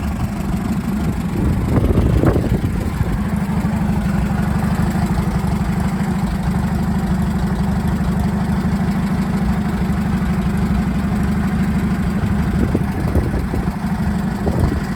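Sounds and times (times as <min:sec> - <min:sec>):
bulldozer engine idling: 0:00.0 - 0:14.9.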